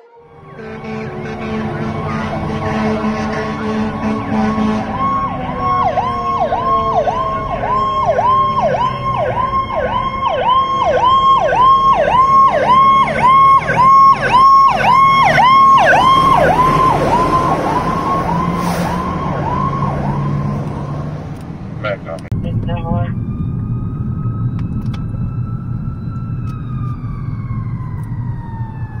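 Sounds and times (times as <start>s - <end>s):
lower siren tone falling: 0.0s - 21.1s, 22.3s - 29.0s
fire truck siren yelping: 0.0s - 21.5s, 22.5s - 29.0s.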